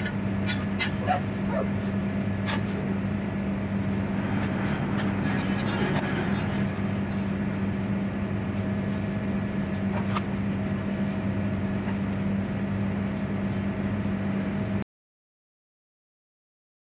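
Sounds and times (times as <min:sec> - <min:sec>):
kitchen machine hum: 0:00.0 - 0:14.8.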